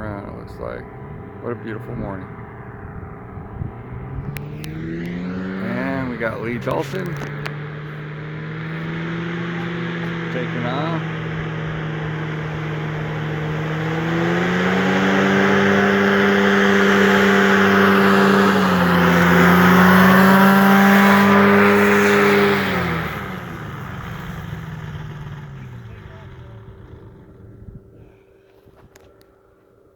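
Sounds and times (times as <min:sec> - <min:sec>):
powered parachute engine and propeller: 0:00.0 - 0:29.8.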